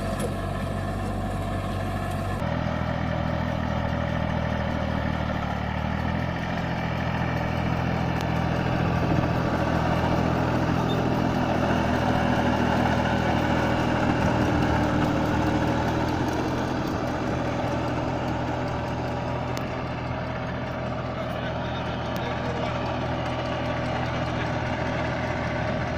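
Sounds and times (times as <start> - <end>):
small tractor engine running: 0.0 - 25.9.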